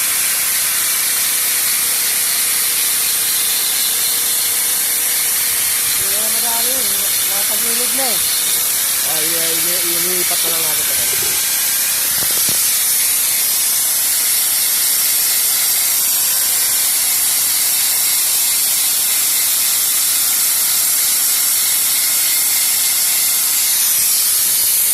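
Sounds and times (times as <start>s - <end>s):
spray gun hissing: 0.0s - 20.6s.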